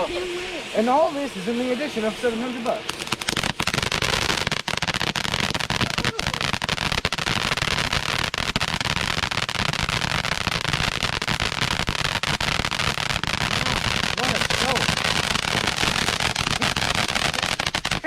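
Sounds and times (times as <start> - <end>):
fireworks crackling and popping: 0.0 - 18.0.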